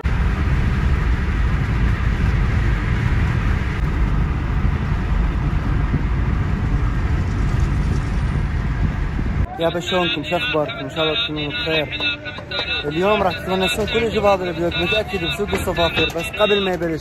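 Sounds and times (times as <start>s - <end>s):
car driving at highway speed: 0.0s - 17.0s.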